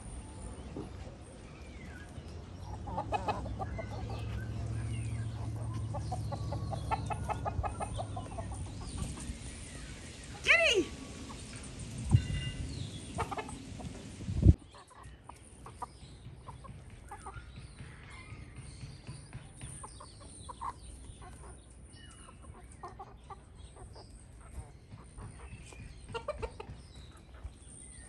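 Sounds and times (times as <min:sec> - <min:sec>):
chickens clucking softly: 0:00.7 - 0:09.8, 0:10.9 - 0:27.9.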